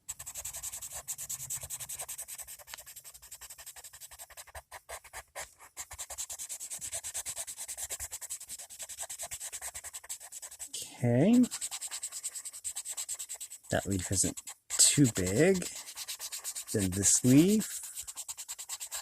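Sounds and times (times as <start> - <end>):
colored pencil shading on paper: 0.0 - 19.0.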